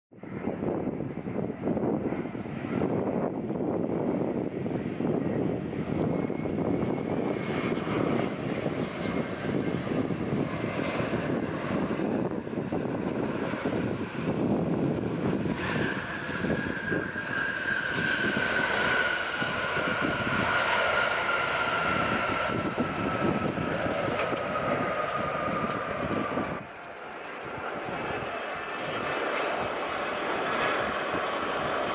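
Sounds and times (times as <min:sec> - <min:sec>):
engine whine: 0:00.2 - 0:31.9
jet engines rumbling: 0:00.2 - 0:31.9.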